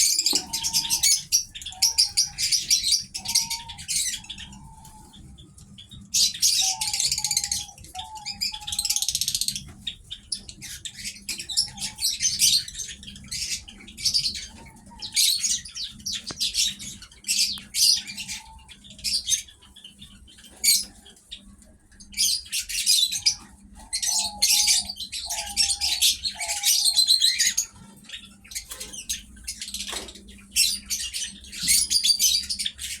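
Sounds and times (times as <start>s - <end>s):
pet birds twittering: 0.0s - 33.0s.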